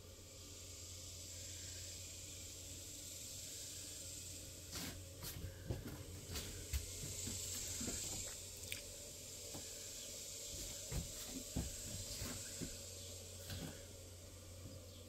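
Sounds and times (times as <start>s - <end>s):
steady hiss and low hum: 0.0s - 15.0s.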